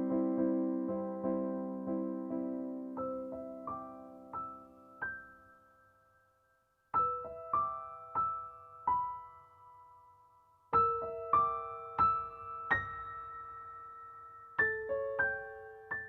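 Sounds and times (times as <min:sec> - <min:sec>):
slow piano notes: 0:00.0 - 0:16.0.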